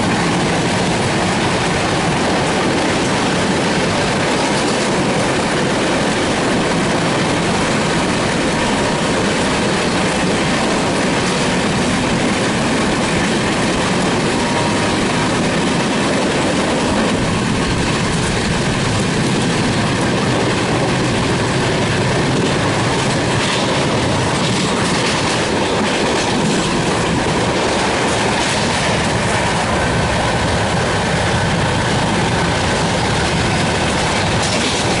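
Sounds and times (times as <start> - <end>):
train passing at speed: 0.0 - 35.0
wheels clacking over rail joints: 0.0 - 35.0.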